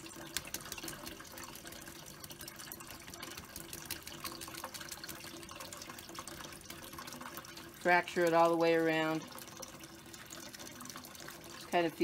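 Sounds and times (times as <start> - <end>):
faucet running into plastic bowl: 0.0 - 12.0.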